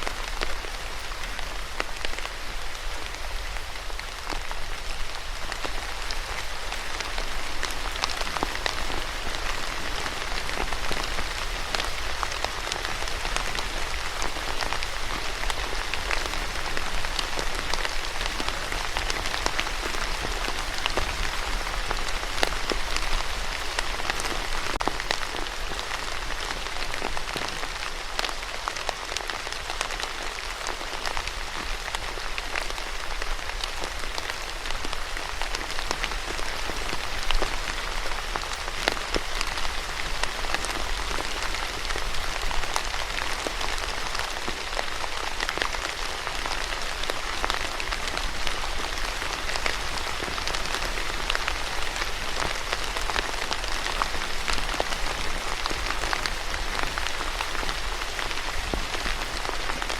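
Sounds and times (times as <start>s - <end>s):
rain pattering on a surface: 0.0s - 59.9s.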